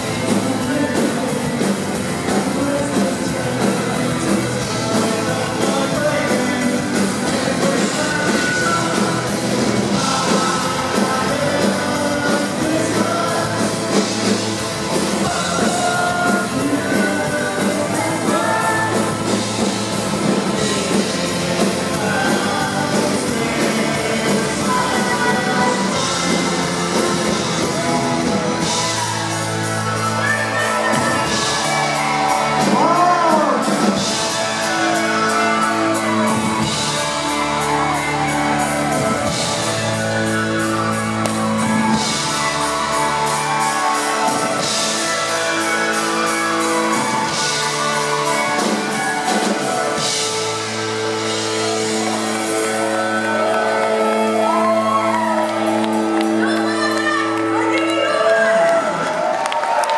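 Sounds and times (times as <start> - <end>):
person singing: 0.0 - 58.9
bass guitar: 0.0 - 59.9
drums: 0.0 - 59.9
electric guitars: 0.0 - 59.9
shouted vocals: 0.0 - 59.9.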